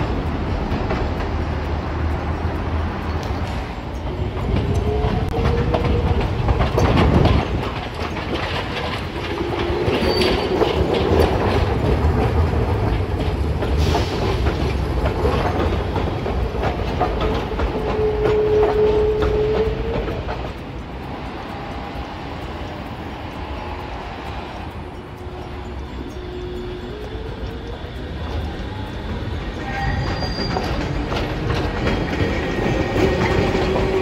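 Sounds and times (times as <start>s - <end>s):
clicking over rail joints: 0.0s - 34.0s
tram wheel rumble: 0.0s - 34.0s.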